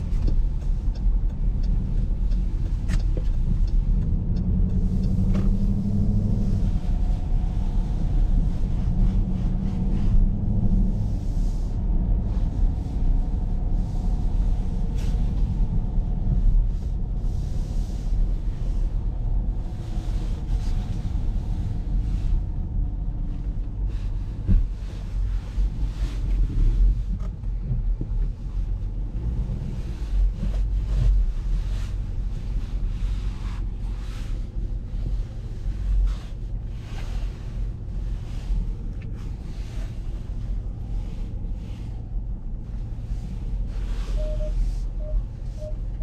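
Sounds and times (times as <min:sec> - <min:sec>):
car engine rumble: 0:00.0 - 0:46.0.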